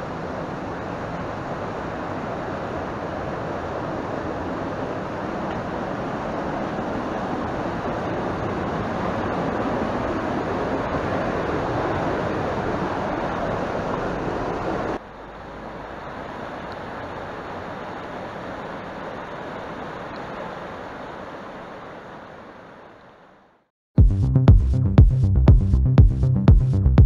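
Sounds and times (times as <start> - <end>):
stream rushing over rocks: 0.0 - 23.4.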